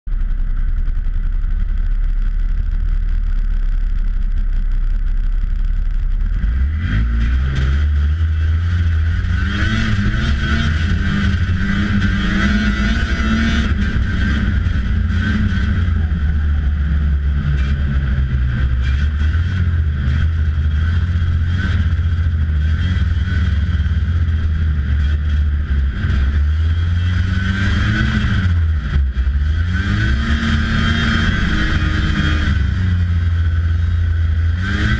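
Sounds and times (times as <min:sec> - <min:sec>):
snowmobile engine idling and revving: 0:00.0 - 0:34.9.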